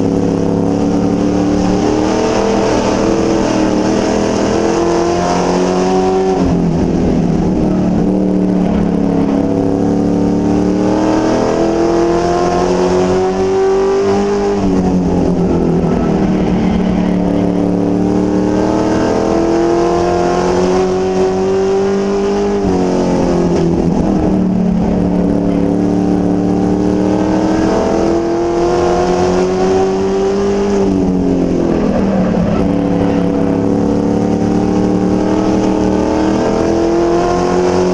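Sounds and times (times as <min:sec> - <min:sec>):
race truck engine revving: 0:00.0 - 0:37.9.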